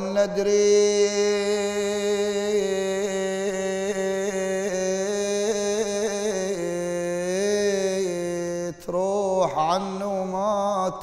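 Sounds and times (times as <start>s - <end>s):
man chanting a lament: 0.0s - 11.0s.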